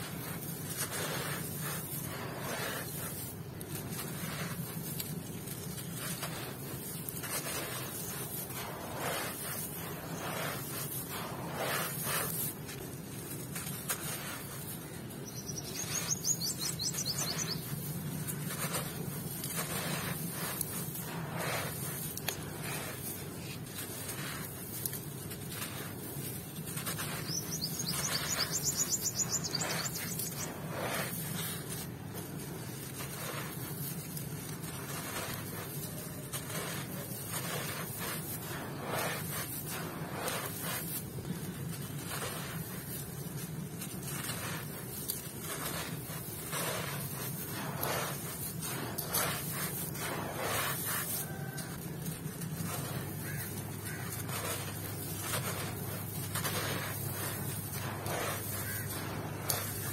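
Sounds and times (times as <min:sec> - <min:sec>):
hands crunching dry sand: 0:00.0 - 0:59.9.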